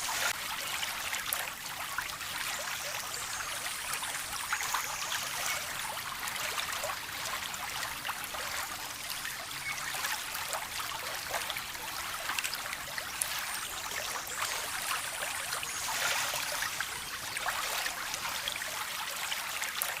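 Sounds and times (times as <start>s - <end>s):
water flowing and trickling: 0.0s - 20.0s.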